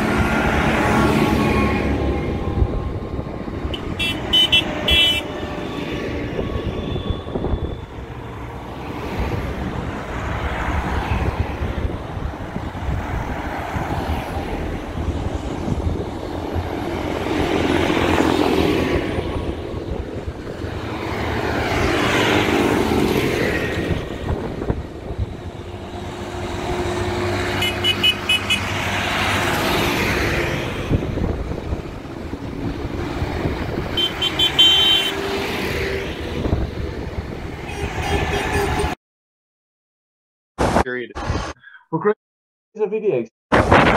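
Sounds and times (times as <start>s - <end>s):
tractors driving past: 0.0s - 39.0s.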